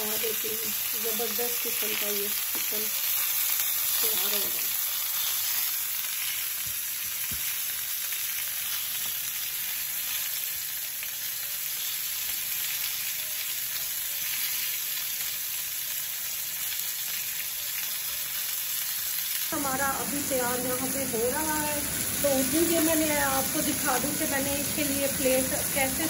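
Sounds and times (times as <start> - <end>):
skewers sizzling in grill pan: 0.0 - 26.0.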